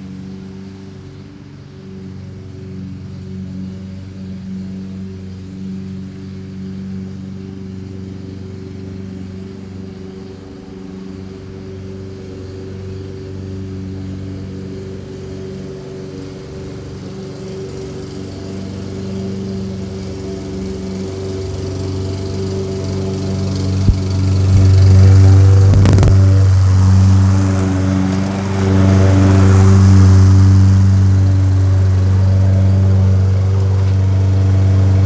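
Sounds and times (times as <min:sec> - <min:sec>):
lawn mower cutting grass: 0:00.0 - 0:35.0.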